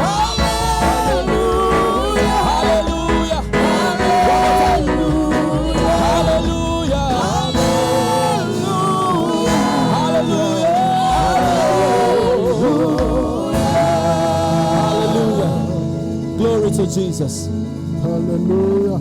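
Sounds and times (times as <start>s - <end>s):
keyboard and bass accompaniment: 0.0s - 19.0s
voices singing gospel: 0.0s - 19.0s.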